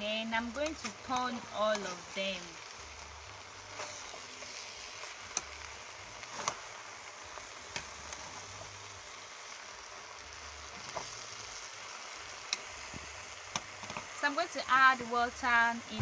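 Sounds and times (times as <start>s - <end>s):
food sizzling in a pot: 0.0s - 16.0s.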